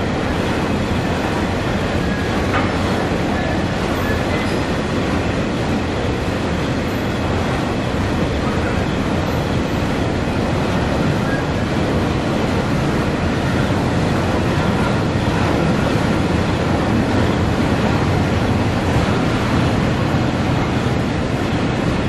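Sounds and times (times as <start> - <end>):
freight train wheels on rails: 0.0 - 22.0.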